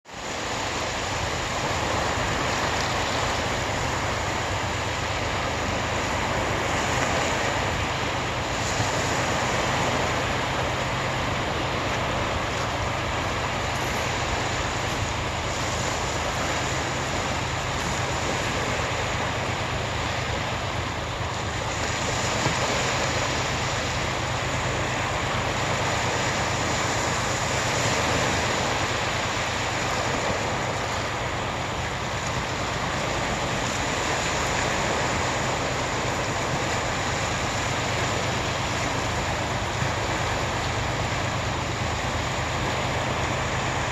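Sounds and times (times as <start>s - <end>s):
sea water rushing: 0.1s - 43.9s.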